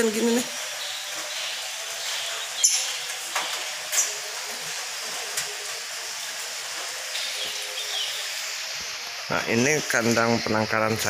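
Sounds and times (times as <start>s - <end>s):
birds chirping high: 0.0s - 11.0s
steady hiss: 0.0s - 11.0s.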